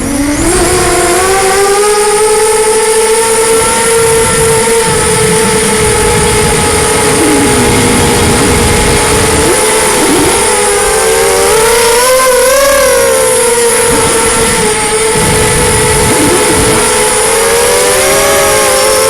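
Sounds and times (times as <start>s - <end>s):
drone motors whining: 0.0s - 19.0s
wind rumbling on microphone: 0.0s - 19.0s.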